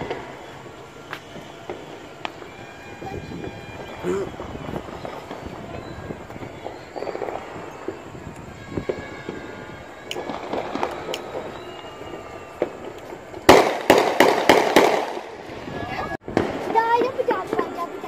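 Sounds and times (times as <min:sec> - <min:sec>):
distant fireworks pops and crackling: 0:00.0 - 0:18.0
fireworks loud bangs: 0:00.0 - 0:18.0
fireworks sharp crack: 0:00.0 - 0:18.0.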